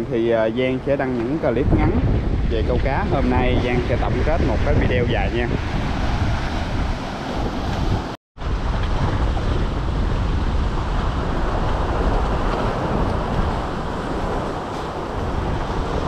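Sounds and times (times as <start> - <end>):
surf washing among boulders: 0.0 - 16.0
wind rumbling on microphone: 0.0 - 16.0.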